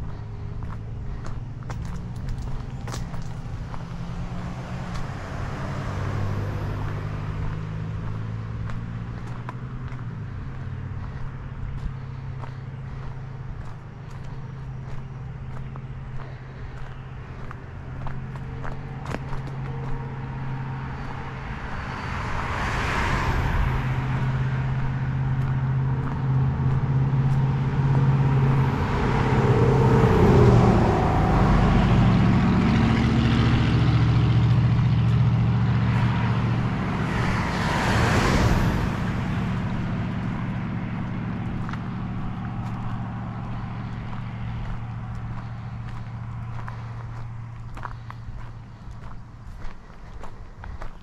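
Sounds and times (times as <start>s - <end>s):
low engine hum: 0.0s - 51.0s
vehicles passing tyre noise: 0.0s - 51.0s.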